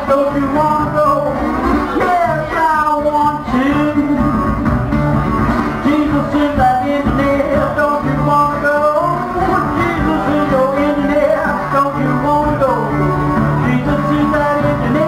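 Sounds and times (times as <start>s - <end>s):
man singing: 0.0s - 4.6s, 5.7s - 15.0s
resonator guitar blues: 0.0s - 15.0s.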